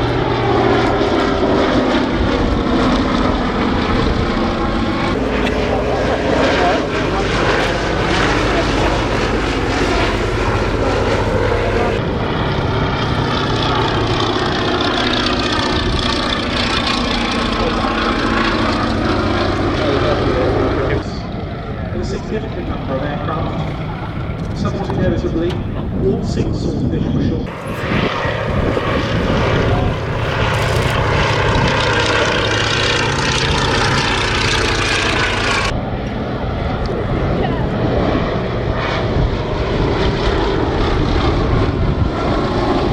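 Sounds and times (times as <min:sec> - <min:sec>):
biplane engine droning: 0:00.0 - 0:42.9.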